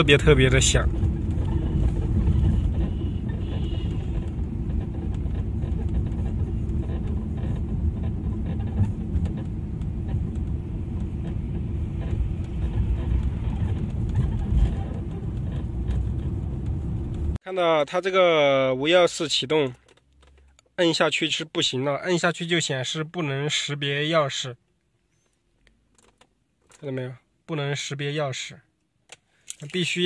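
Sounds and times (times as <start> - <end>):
low chassis noise in car cabin: 0.0 - 30.0.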